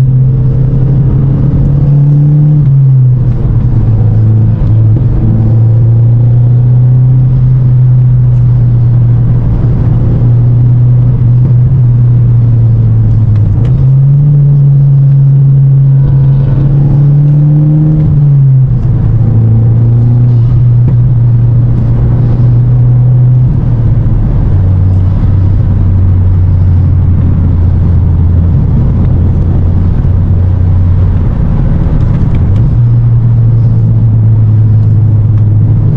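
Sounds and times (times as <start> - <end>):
car engine drone: 0.0 - 35.9
road noise: 0.0 - 35.9.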